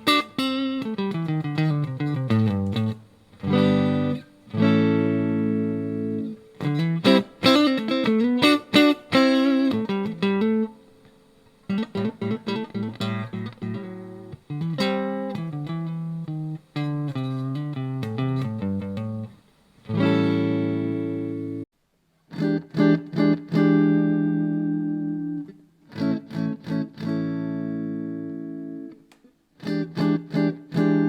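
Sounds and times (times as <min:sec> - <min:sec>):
clean electric guitar: 0:00.0 - 0:21.7, 0:22.3 - 0:31.0.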